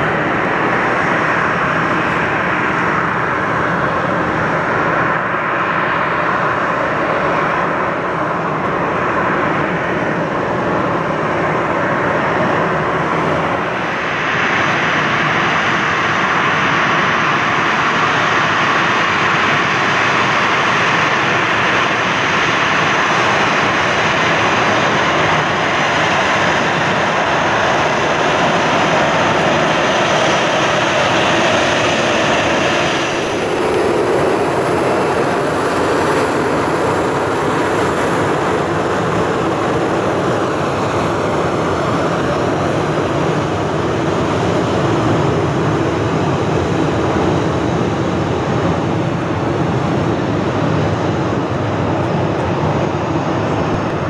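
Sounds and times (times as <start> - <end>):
high engine whine: 0.0 - 54.0
jet engines roaring: 0.0 - 54.0.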